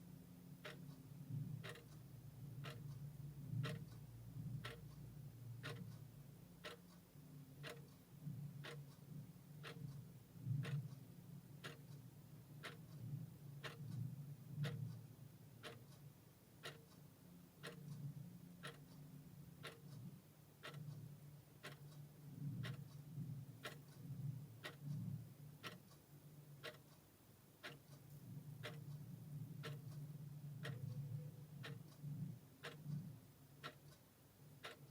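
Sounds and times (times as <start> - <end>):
mechanical clock ticking: 0.5 - 34.9.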